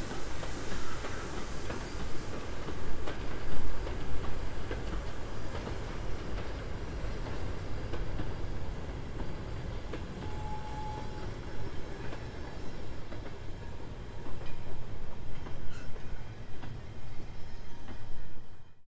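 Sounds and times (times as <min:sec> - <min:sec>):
train wheels rumbling on rails: 0:00.0 - 0:18.8.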